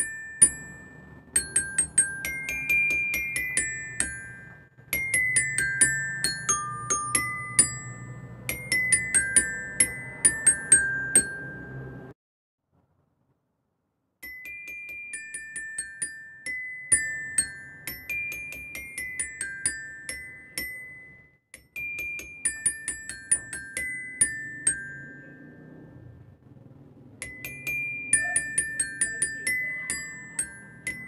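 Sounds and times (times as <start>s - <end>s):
glockenspiel melody: 0.0s - 12.2s, 14.2s - 26.2s, 27.1s - 31.0s.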